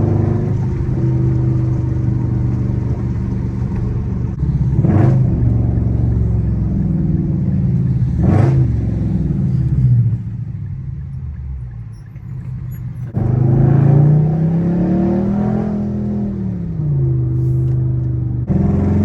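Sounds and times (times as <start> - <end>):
loud car exhaust accelerating: 0.0 - 19.0.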